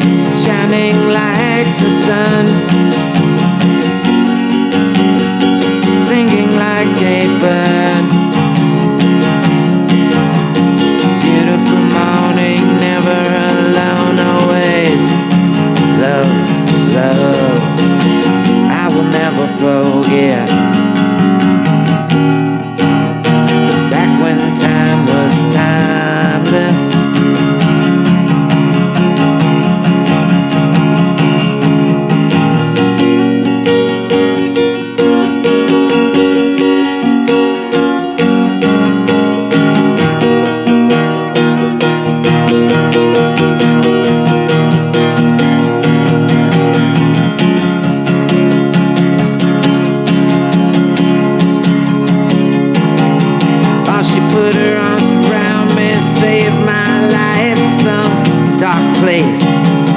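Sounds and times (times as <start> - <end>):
acoustic guitar strumming and plucking: 0.0 - 59.9.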